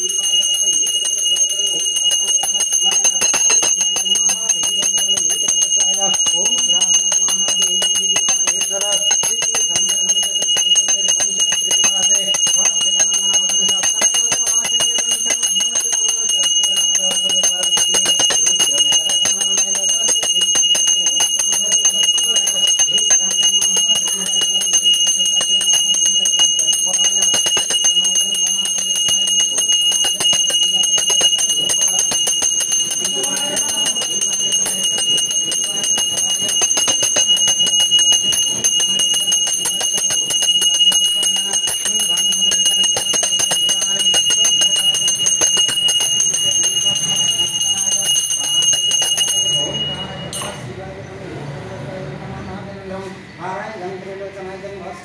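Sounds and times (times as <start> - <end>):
hand bell ringing rapidly: 0.0 - 50.7
faint voices: 0.0 - 55.0.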